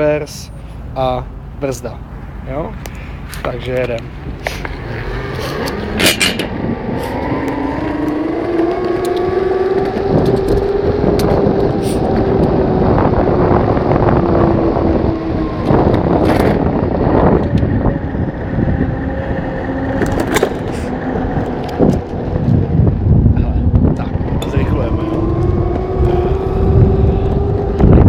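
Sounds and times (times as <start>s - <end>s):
noisy rumble: 0.0s - 28.0s
electric motor whining: 4.8s - 28.0s.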